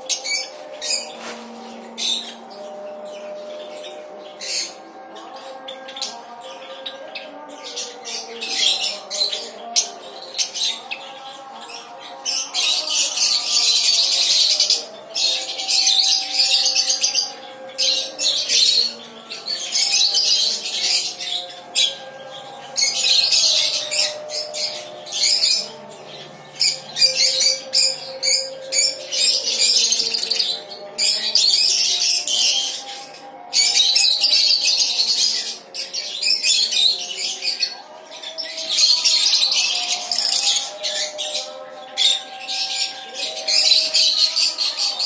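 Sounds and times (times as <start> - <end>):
caged birds chattering and squawking: 0.0 - 45.0.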